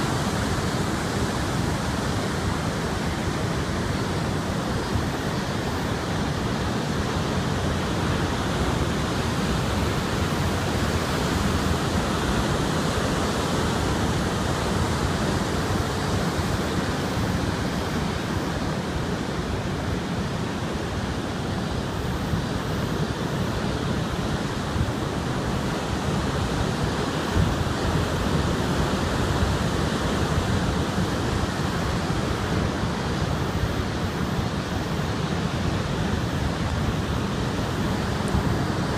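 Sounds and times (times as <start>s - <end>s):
heavy surf on a beach: 0.0s - 38.9s
strong wind: 0.0s - 38.9s
wind buffeting the microphone: 0.0s - 38.9s.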